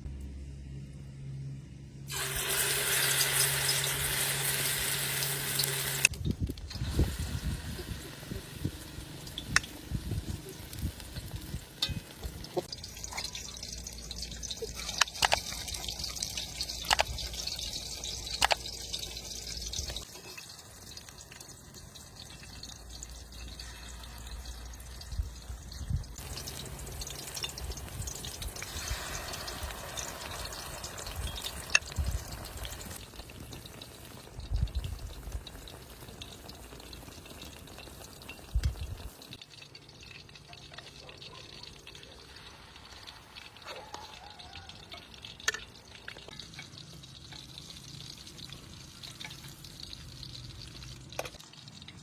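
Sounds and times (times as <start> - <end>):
cutlets sizzling in hot oil: 2.1 - 52.0.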